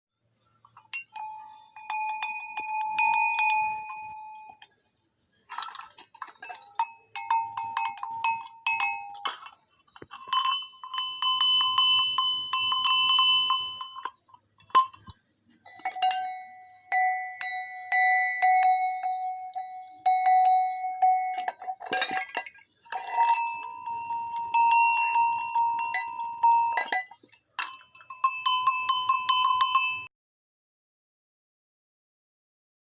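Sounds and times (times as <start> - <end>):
livestock bells clanking: 0.6 - 4.7, 5.5 - 30.1.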